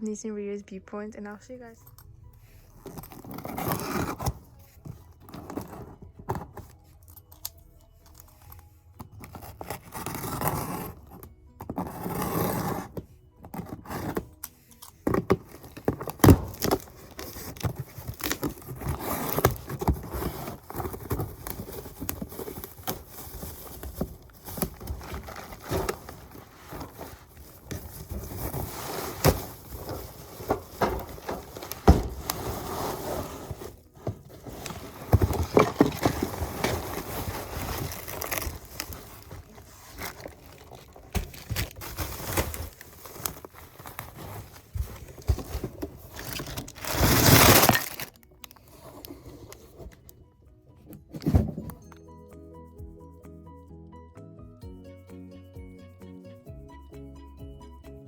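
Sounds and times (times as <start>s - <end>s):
packaging scraping and crinkling: 2.7s - 6.8s, 7.4s - 50.1s.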